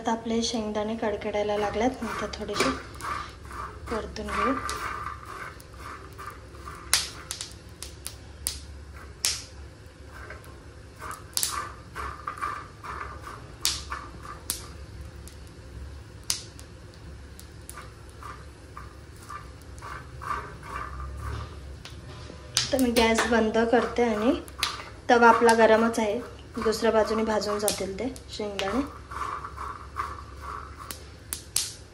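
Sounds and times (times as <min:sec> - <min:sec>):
peanuts stirred in pan: 0:00.6 - 0:31.9
peanuts crackling and popping: 0:01.2 - 0:31.9.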